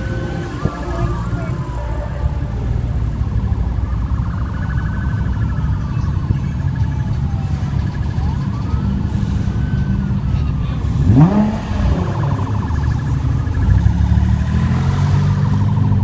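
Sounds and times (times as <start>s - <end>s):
emergency vehicle siren wailing: 0.0s - 16.0s
street traffic rumble: 0.0s - 16.0s.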